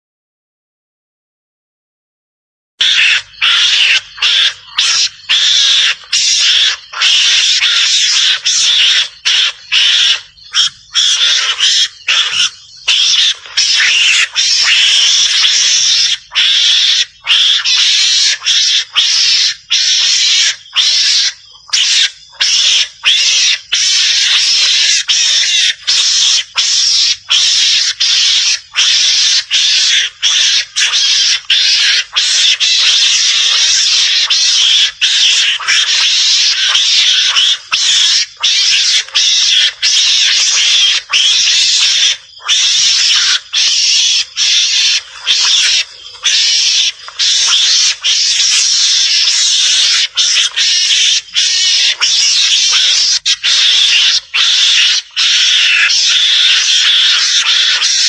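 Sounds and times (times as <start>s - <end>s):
mongoose harsh chattering: 2.8s - 58.0s.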